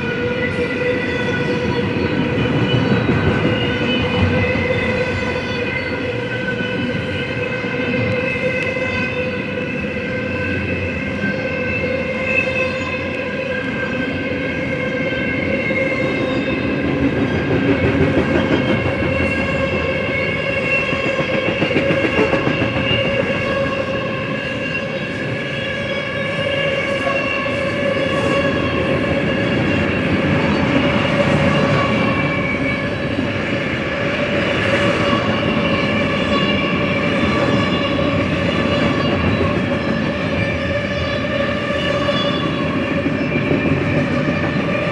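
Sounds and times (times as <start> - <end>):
ringing whine of wheels: 0.0 - 44.9
train wheels rumbling on rail: 0.0 - 44.9.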